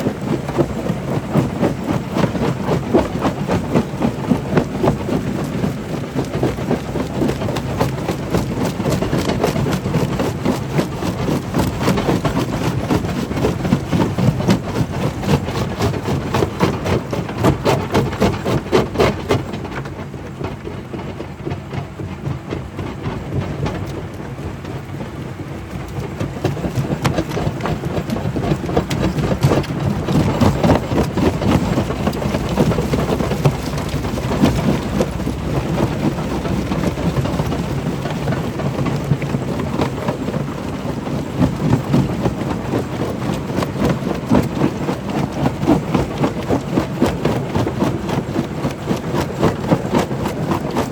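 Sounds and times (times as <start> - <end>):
stone crusher low rumble: 0.0 - 50.9.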